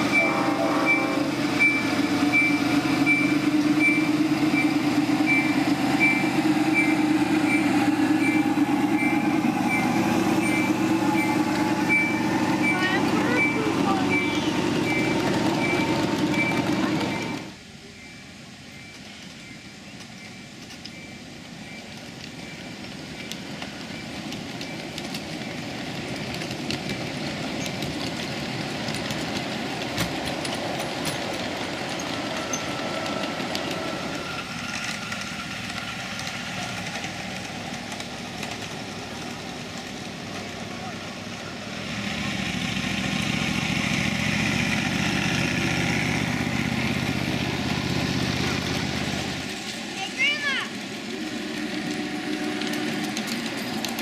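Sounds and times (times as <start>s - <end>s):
wheels clicking on rail: 0.0s - 17.7s, 18.6s - 54.0s
miniature train rolling on track: 0.0s - 54.0s.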